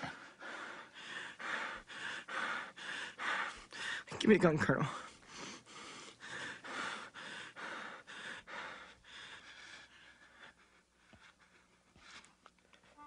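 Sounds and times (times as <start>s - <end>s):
man breathing rapidly and heavily: 0.0s - 13.0s.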